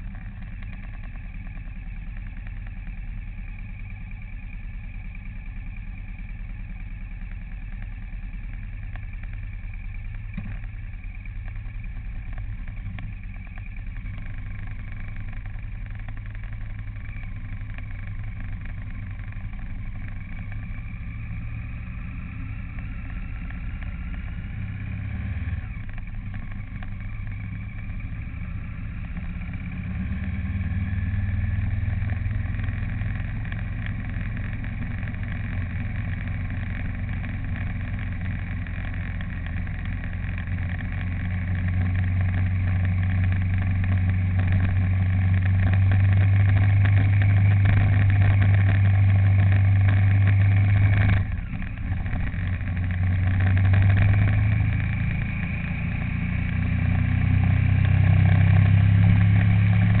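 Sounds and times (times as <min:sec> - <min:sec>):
road noise: 0:00.0 - 1:00.0
vehicle engine running: 0:00.0 - 1:00.0.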